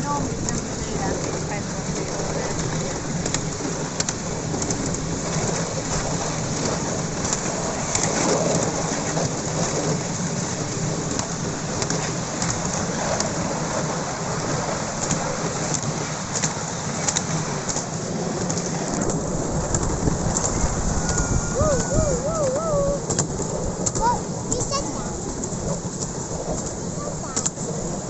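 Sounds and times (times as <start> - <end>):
track clicks and clacks: 0.0 - 10.0, 11.1 - 27.7
wheels rumbling on rail: 0.0 - 28.0.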